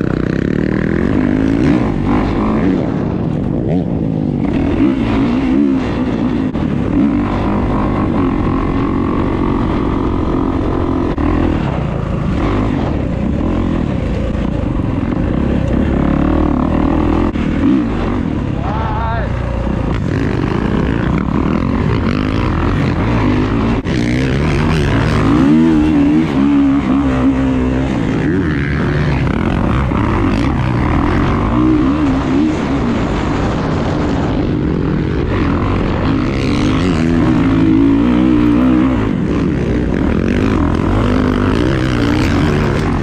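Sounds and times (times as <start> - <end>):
dirt bike engine revving: 0.0 - 43.0
wind on microphone: 0.0 - 43.0.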